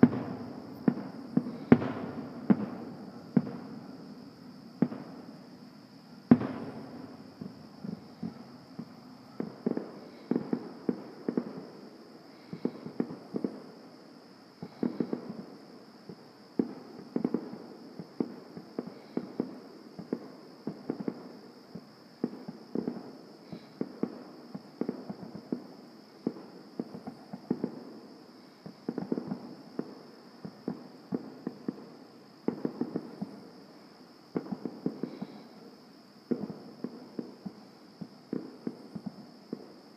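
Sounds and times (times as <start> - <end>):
fireworks crackling bangs: 0.0 - 5.4, 6.2 - 13.8, 14.6 - 33.6, 34.3 - 39.9.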